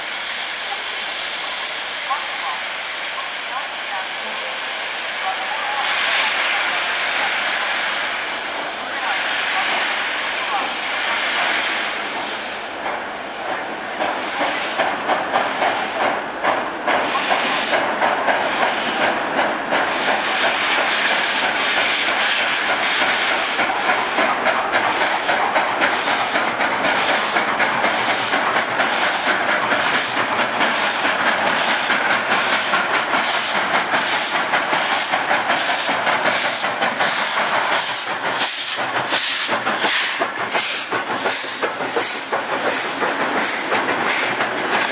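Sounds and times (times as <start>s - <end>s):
steam hissing: 0.0s - 44.9s
steam locomotive exhaust chuffs: 0.0s - 44.9s.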